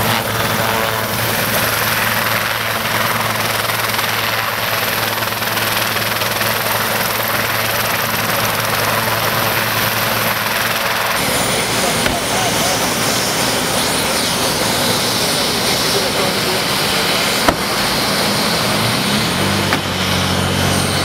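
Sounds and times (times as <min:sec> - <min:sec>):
helicopter turbine and rotor noise: 0:00.0 - 0:21.0.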